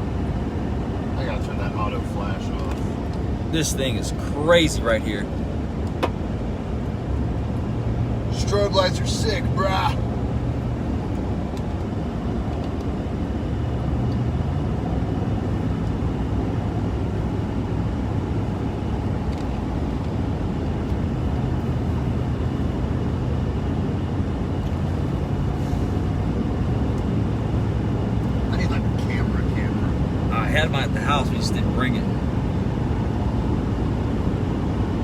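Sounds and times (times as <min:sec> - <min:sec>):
truck engine drone: 0:00.0 - 0:35.0.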